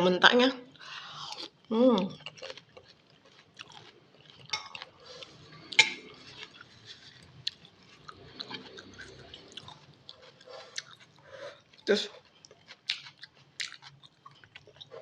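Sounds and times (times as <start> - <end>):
person chewing noodles: 0.8 - 15.0.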